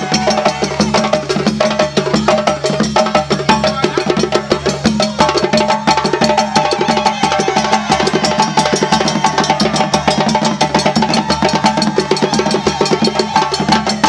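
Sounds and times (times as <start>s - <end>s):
hand drums playing fast rhythm: 0.0s - 14.0s.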